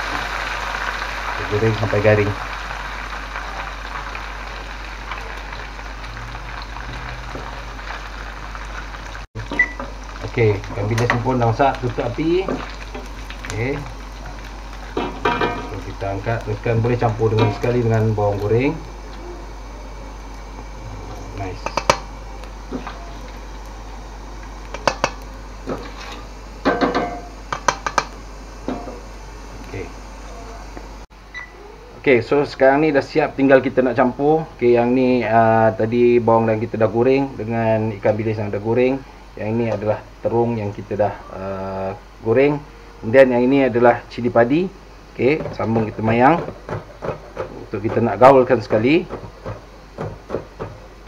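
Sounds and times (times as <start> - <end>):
fish deep-frying in oil: 0.0 - 31.7, 32.7 - 51.0.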